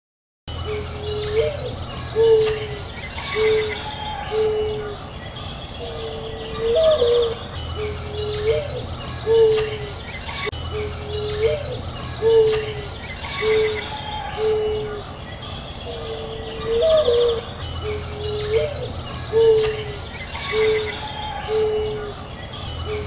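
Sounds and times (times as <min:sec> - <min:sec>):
small birds chirping and trilling: 0:00.5 - 0:23.0
bird cooing: 0:00.6 - 0:23.0.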